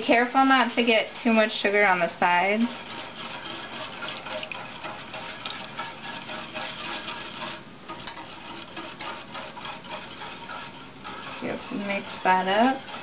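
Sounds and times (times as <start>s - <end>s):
whisk swishing in saucepan: 0.0s - 13.0s
whisk wires scraping pan: 0.0s - 13.0s.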